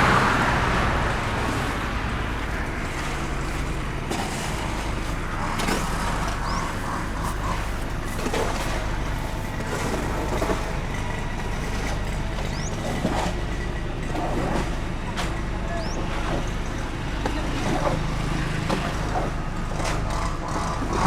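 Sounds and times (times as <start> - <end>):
bus diesel engine idling: 0.0 - 21.0
outdoor background noise: 0.0 - 21.0.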